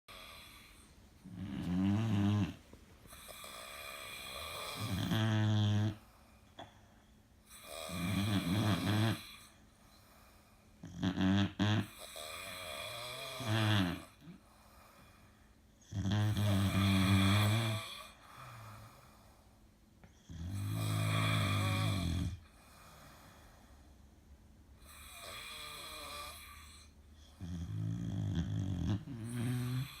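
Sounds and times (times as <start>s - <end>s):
low-pitched snoring: 0.1s - 6.3s, 7.5s - 23.9s, 24.8s - 30.0s.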